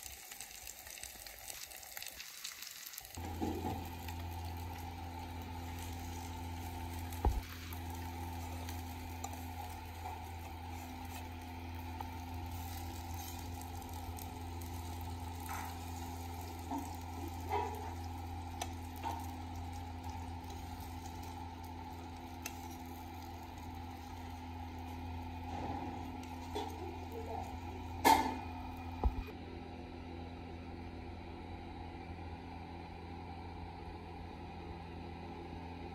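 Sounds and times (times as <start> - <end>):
fish sizzling on a griddle: 0.0 - 29.2.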